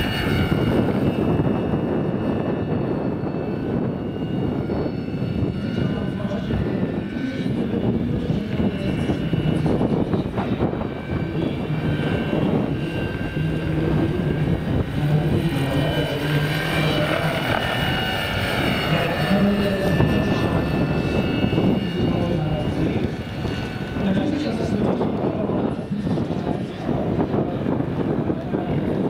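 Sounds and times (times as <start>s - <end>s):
model helicopter rotor and motor: 0.0s - 29.0s
wind on microphone: 0.0s - 29.0s.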